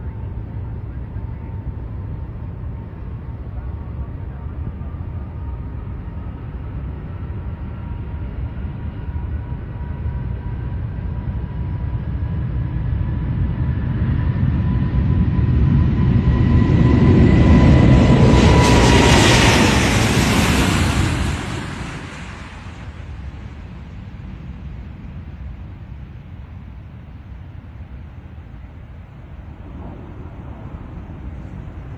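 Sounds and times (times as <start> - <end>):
aeroplane engines at takeoff: 0.0 - 31.9.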